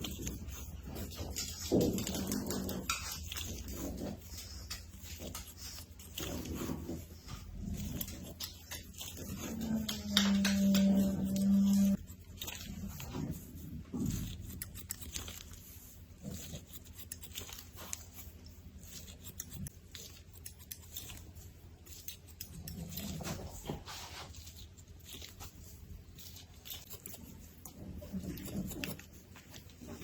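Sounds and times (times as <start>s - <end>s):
faint steady hum: 0.0s - 30.0s
shears snipping hair: 0.0s - 30.0s.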